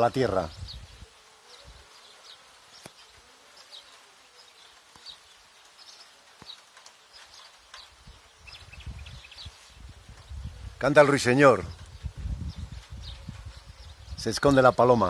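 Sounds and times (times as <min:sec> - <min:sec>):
nightingale singing: 0:00.0 - 0:15.0.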